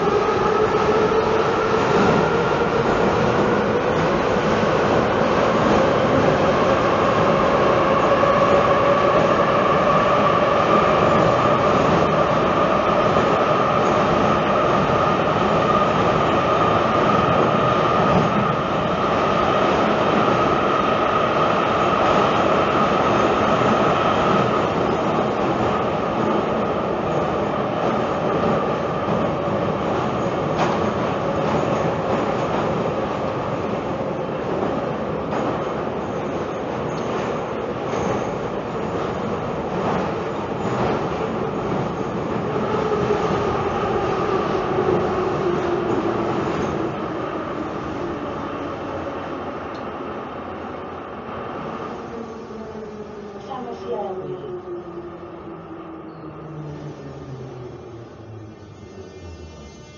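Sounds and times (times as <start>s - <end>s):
metro train rumbling with whine: 0.0s - 59.9s.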